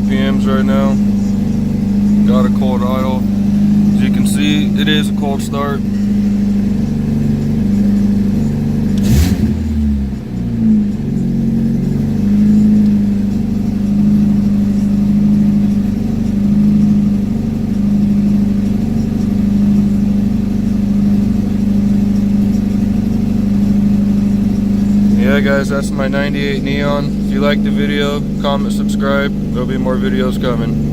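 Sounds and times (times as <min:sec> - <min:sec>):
car engine fast idle: 0:00.0 - 0:30.9
engine knock: 0:00.0 - 0:30.9.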